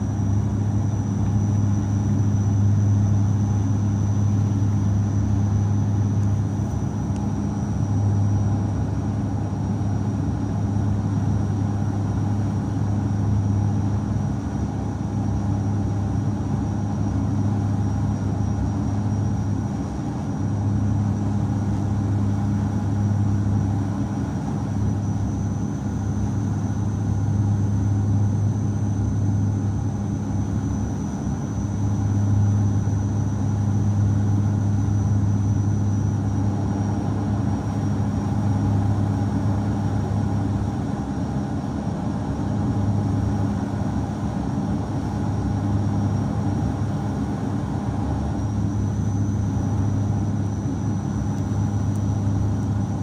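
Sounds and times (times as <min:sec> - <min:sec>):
airliner engines droning: 0:00.0 - 0:53.0
faint high whine: 0:00.0 - 0:53.0.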